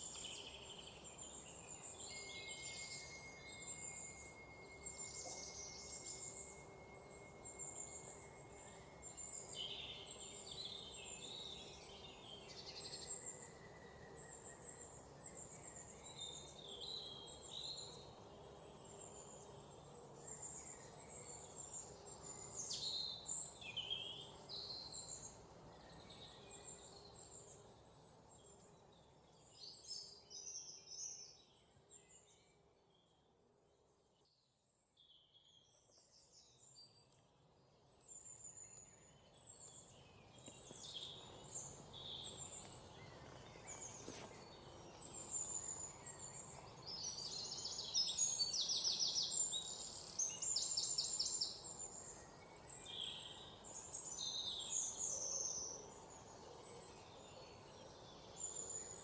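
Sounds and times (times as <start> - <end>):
faint steady background hiss: 0.0 - 59.0
small birds chirping and singing: 0.0 - 59.0.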